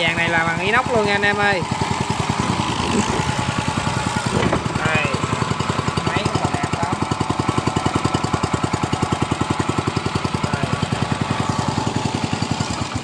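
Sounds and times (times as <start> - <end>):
small petrol engine puttering: 0.0 - 13.0.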